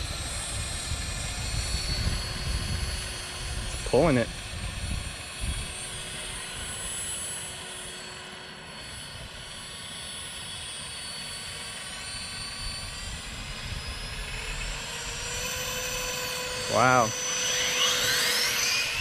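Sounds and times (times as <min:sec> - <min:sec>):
electric fan whining: 0:00.0 - 0:09.6, 0:10.8 - 0:19.0.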